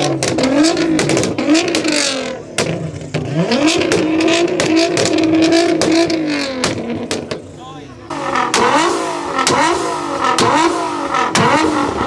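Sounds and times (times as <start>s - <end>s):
car engine revving hard: 0.0s - 7.2s, 8.1s - 12.0s
exhaust cracks: 0.0s - 12.0s.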